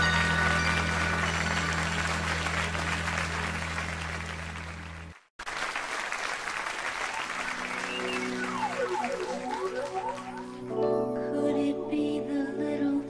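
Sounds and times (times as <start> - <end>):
soft music with sweeping glides: 0.0 - 5.0, 7.2 - 13.0
audience applause: 0.0 - 10.7.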